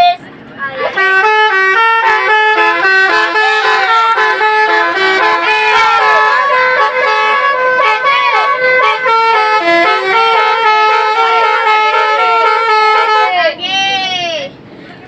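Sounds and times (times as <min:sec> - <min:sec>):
musical air horn playing tune: 0:00.9 - 0:13.4.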